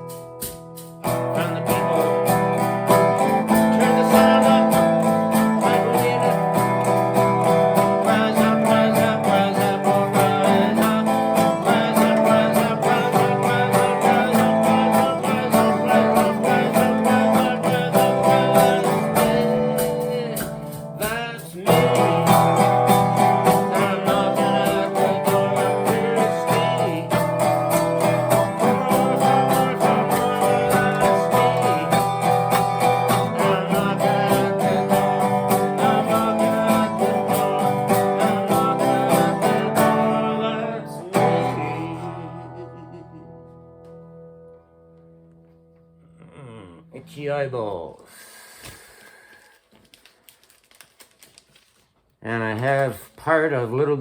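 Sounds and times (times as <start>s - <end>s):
acoustic guitar music: 0.0s - 48.0s.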